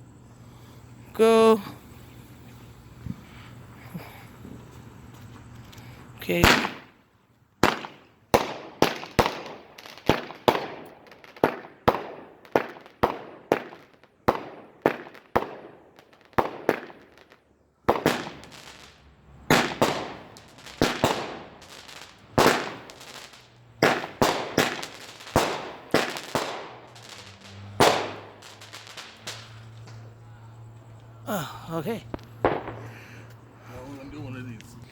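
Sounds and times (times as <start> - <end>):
fireworks bangs: 6.2 - 7.0, 7.6 - 34.8.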